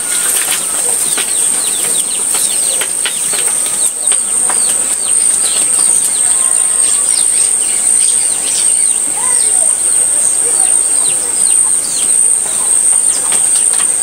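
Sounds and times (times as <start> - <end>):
small birds chirping: 0.0 - 14.0
steady high-pitched whine: 0.0 - 14.0.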